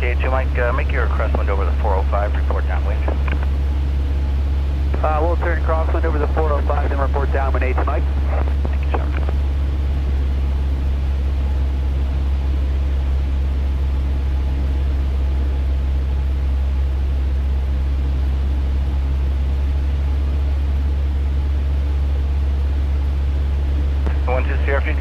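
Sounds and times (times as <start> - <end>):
light aircraft engine drone in cabin: 0.0 - 25.0.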